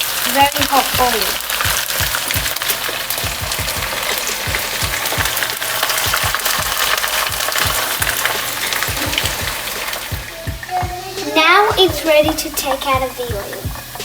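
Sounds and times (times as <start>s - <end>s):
chicken deep-frying in oil: 0.0s - 14.0s.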